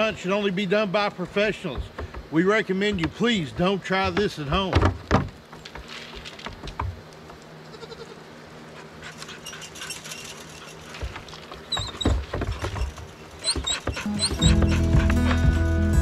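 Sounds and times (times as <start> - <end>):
hooves clattering on wooden plank: 0.0 - 7.6, 9.0 - 15.7.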